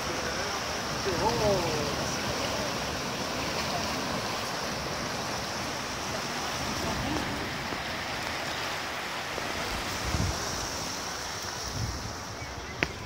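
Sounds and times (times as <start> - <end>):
water rushing and churning: 0.0 - 13.0.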